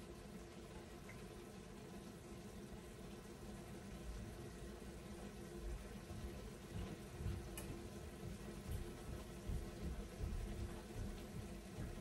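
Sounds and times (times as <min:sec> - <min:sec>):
food sizzling and bubbling: 0:00.0 - 0:12.0.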